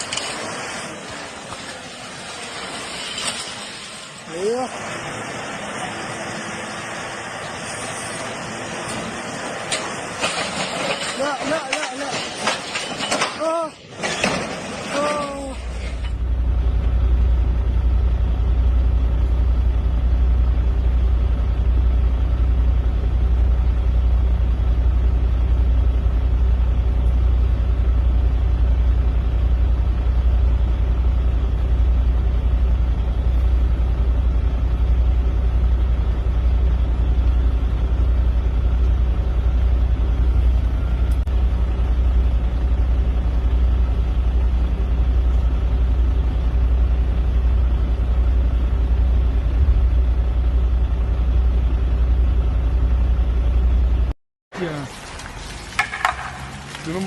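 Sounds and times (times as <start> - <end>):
heavy vehicle engine humming: 0.0 - 57.0.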